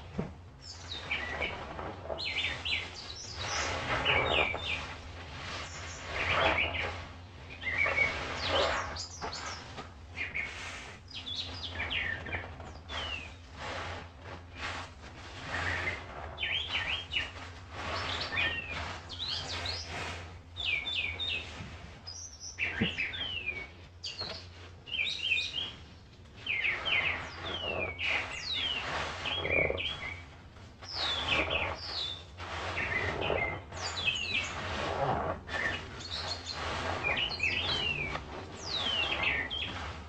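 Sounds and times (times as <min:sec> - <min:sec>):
songbirds chirping: 0:00.0 - 0:40.0.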